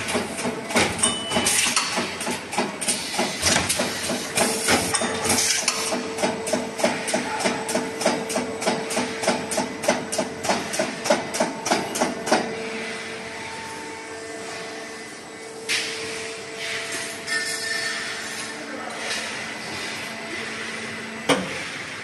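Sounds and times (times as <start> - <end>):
machine hum with held tone: 0.0 - 2.0, 4.9 - 22.0.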